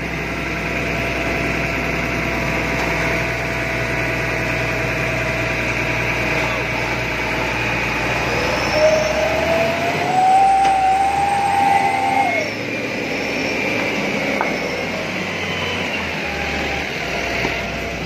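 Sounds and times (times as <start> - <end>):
diesel truck engine under load: 0.0 - 18.0
rising whine: 0.0 - 18.0.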